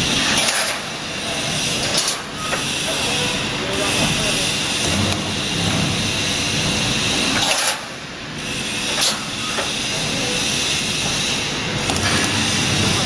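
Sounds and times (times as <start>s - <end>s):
welding machine running: 0.0s - 13.0s.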